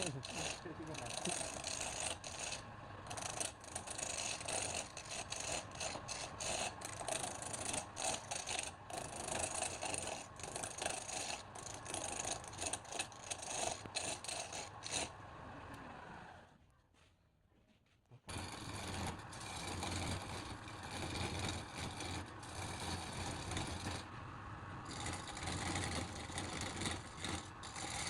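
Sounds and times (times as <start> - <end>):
wood lathe humming: 0.0 - 16.4, 18.3 - 28.0
tool scraping spinning wood: 0.0 - 16.5, 18.3 - 28.0.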